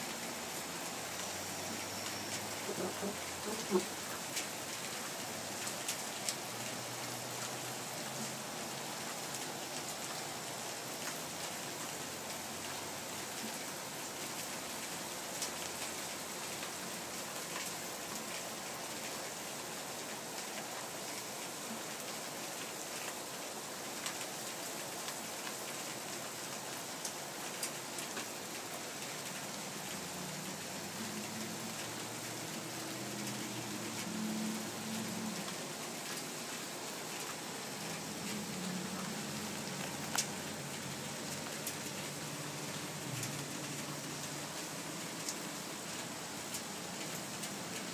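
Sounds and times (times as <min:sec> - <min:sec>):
rain on pavement and trees: 0:00.0 - 0:47.9.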